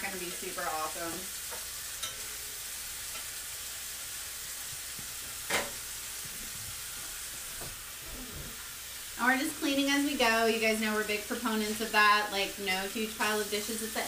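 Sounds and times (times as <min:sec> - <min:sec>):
chicken sizzling in pan: 0:00.0 - 0:14.0.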